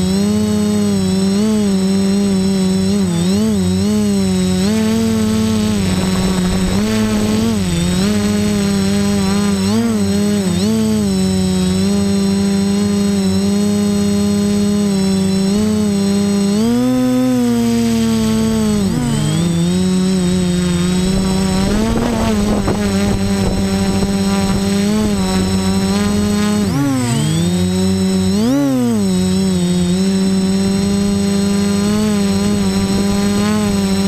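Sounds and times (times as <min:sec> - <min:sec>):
quadcopter motors buzzing: 0:00.0 - 0:34.0.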